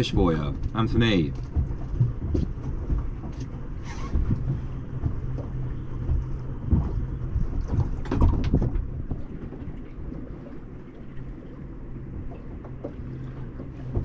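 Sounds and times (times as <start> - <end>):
faint steady hum: 0.0 - 14.0
wind buffeting microphone: 0.0 - 14.0.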